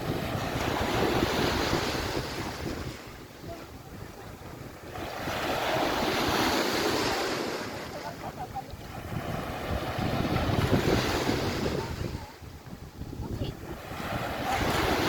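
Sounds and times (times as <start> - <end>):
waves washing onto beach: 0.0 - 15.0
wind buffeting microphone: 0.0 - 15.0.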